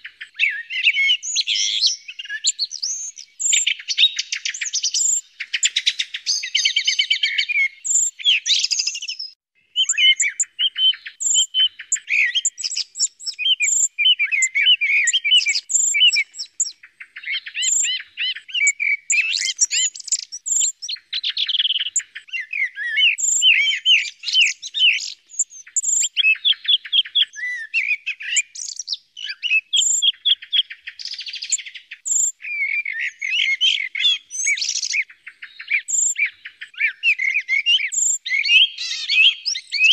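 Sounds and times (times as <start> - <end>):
blackbird singing: 0.0 - 39.9
song thrush singing: 0.0 - 39.9.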